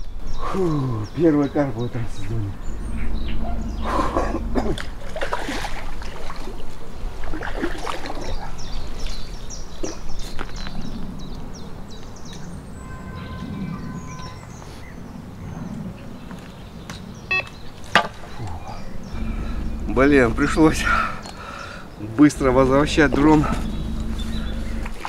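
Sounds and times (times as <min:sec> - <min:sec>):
small birds chirping: 0:00.0 - 0:05.0, 0:07.5 - 0:25.0
low rumble of wind: 0:00.0 - 0:25.0.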